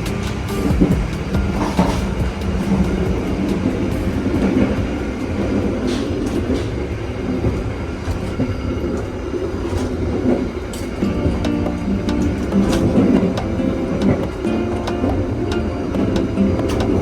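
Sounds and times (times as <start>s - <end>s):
train rumbling on track: 0.0s - 17.0s
wheels clicking on rails: 0.0s - 17.0s.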